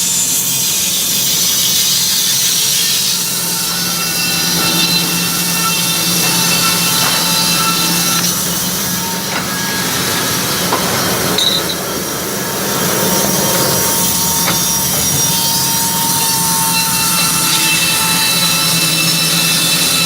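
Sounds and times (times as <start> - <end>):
band sawmill sawing wood: 0.4 - 20.0.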